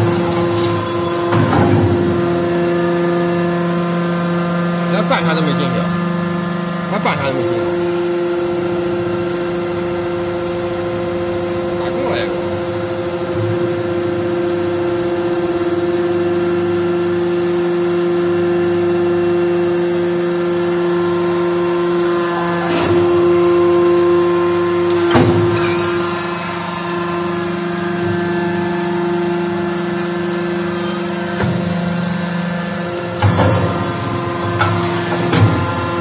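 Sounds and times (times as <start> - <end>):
hydraulic press humming: 0.0 - 36.0.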